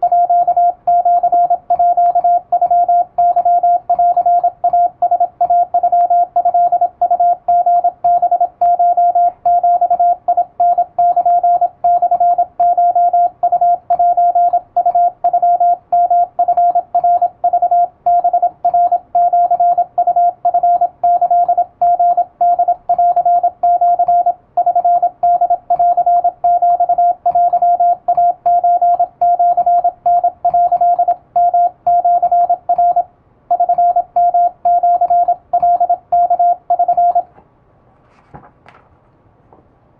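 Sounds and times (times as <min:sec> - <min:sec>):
morse code beeps: 0:00.0 - 0:37.3.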